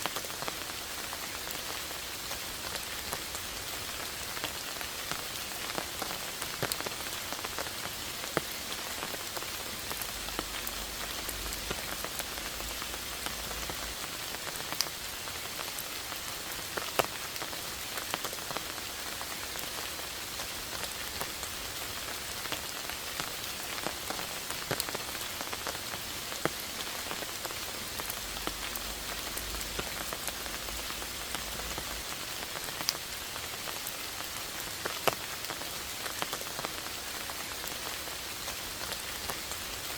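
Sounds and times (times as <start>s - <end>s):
rain on moss and leaves: 0.0s - 39.9s.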